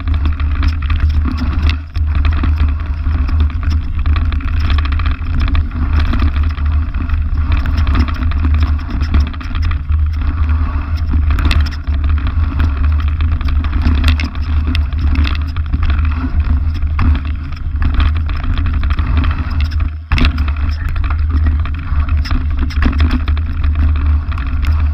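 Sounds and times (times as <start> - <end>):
bike knocking and rattling: 0.0 - 24.9
wind and ground rumble: 0.0 - 24.9.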